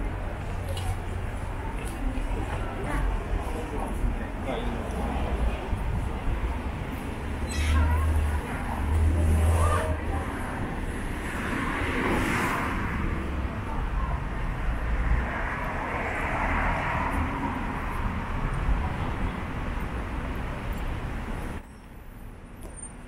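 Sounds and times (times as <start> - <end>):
cars passing: 0.0 - 22.6
traffic rumble: 0.0 - 23.0.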